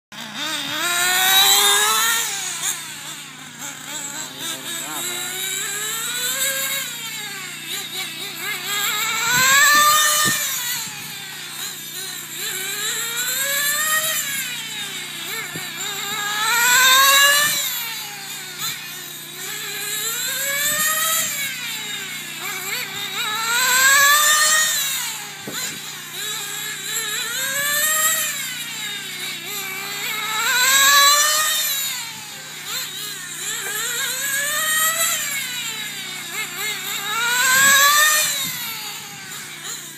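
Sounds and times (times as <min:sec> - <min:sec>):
model car engine revving: 0:00.1 - 0:39.9.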